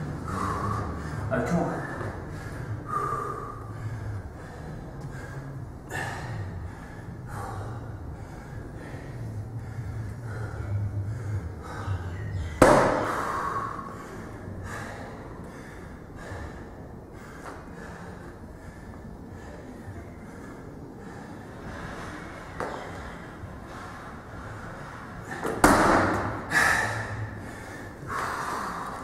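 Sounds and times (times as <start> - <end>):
man breathing hard: 0.0 - 29.0.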